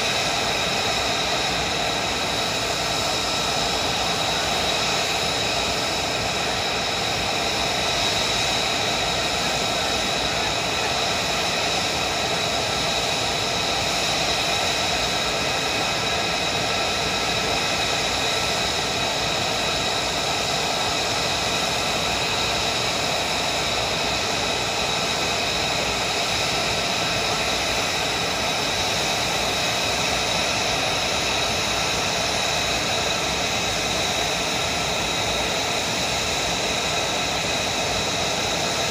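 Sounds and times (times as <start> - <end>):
jet engine idling: 0.0 - 38.9.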